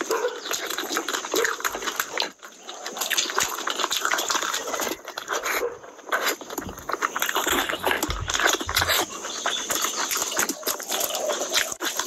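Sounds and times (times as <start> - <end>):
lip smacking: 0.0 - 12.0
slurping: 0.0 - 12.0
wet chewing: 0.0 - 12.0.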